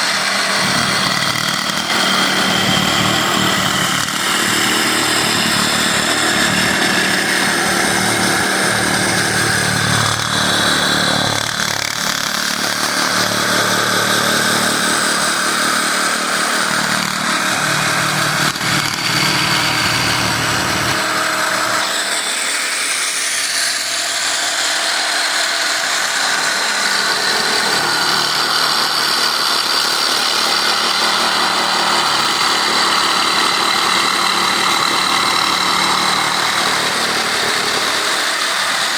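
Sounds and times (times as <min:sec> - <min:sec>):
electric jigsaw motor buzzing: 0:00.0 - 0:38.9.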